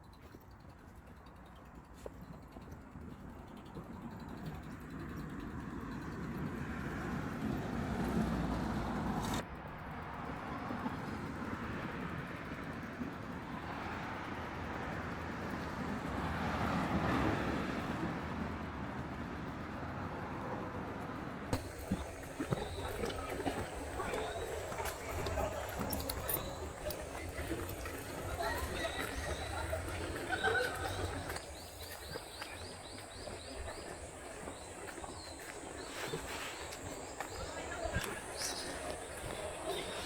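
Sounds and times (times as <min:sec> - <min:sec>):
cars passing on road: 0:03.9 - 0:40.0.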